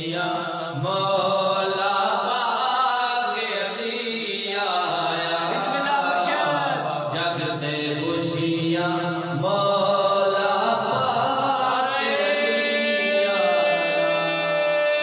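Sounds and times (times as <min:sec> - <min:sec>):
layered vocal backing: 0:00.0 - 0:15.0
man singing long held notes: 0:00.0 - 0:15.0.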